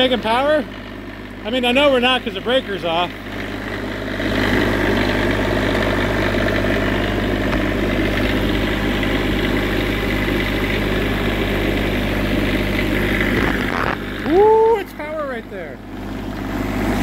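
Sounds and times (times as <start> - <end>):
diesel generator running: 0.0 - 17.0.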